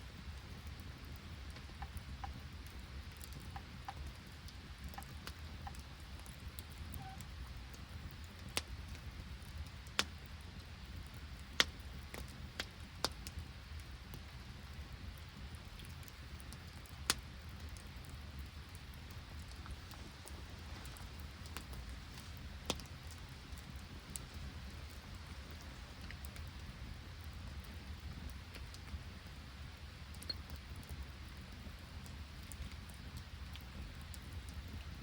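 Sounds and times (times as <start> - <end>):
campfire crackling: 0.0 - 35.0
rain and sleet hiss: 0.0 - 35.0
fire pops and ticks: 0.1 - 35.0.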